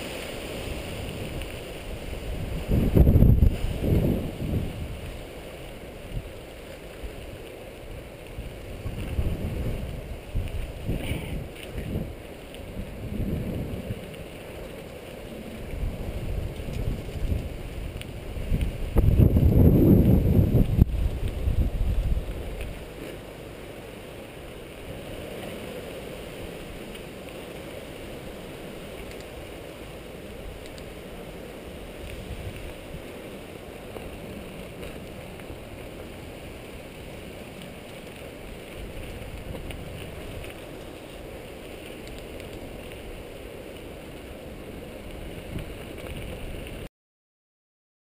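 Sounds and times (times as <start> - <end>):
wind rushing on microphone: 0.0 - 23.1, 24.6 - 46.9
bike tyre noise on dirt: 0.0 - 46.9.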